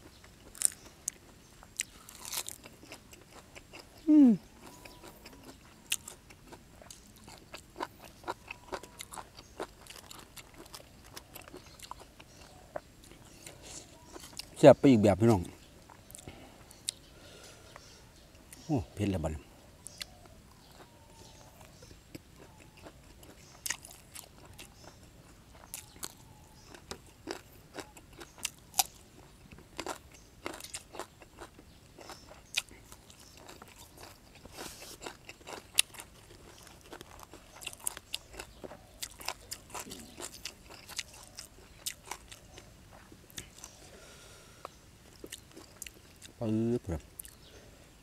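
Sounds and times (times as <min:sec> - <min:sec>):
man chewing and biting: 0:00.0 - 0:14.6, 0:19.8 - 0:44.2, 0:45.0 - 0:46.4
crunchy bites: 0:00.4 - 0:14.6, 0:19.9 - 0:46.4.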